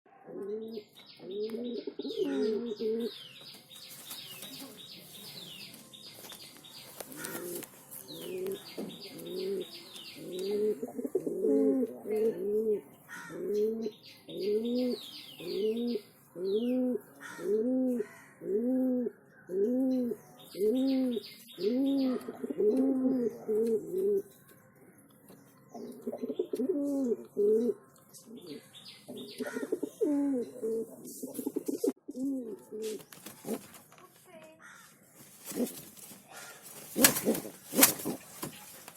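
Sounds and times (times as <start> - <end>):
pigeons cooing: 0.2 - 3.3, 6.7 - 24.3, 25.7 - 33.7, 35.3 - 38.9
small birds chirping: 0.4 - 38.9.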